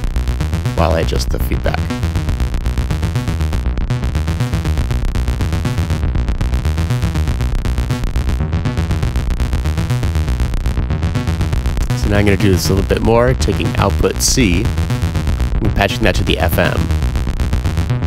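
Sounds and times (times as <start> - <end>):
synthesizer bass line: 0.0 - 18.0.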